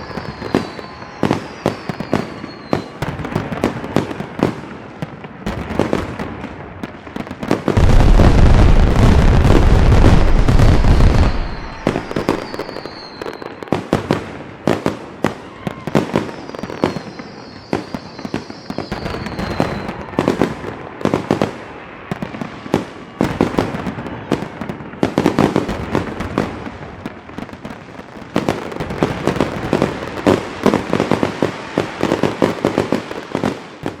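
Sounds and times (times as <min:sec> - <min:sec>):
fireworks bangs and crackles: 0:00.0 - 0:34.0
fireworks falling whistles: 0:00.0 - 0:34.0.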